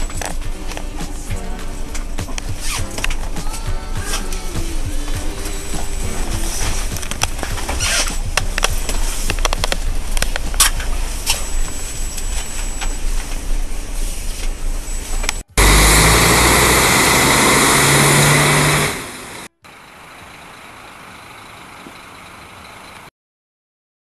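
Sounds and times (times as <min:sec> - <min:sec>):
diesel engine idling with hiss: 0:00.0 - 0:23.1.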